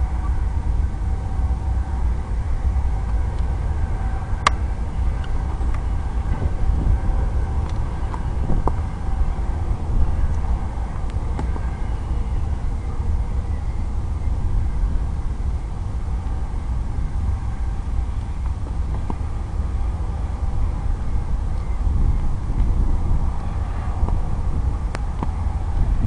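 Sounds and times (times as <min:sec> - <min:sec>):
faint steady tones: 0:00.0 - 0:26.0
wind buffeting microphone: 0:00.0 - 0:26.0.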